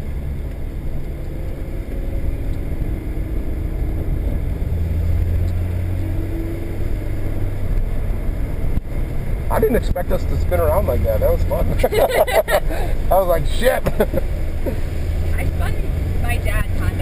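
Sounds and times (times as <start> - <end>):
car engine from inside cabin: 0.0 - 17.0
road noise: 0.0 - 17.0.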